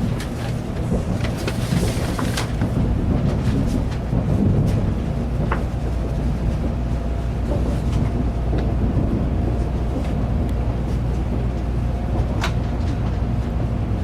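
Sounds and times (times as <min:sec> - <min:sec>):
train running low rumble: 0:00.0 - 0:14.0.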